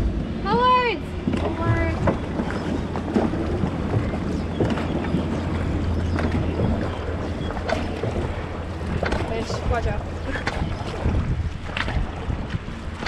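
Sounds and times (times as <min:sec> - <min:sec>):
paddles splashing through water: 0:00.0 - 0:13.0
wind rumbling on microphone: 0:00.0 - 0:13.0.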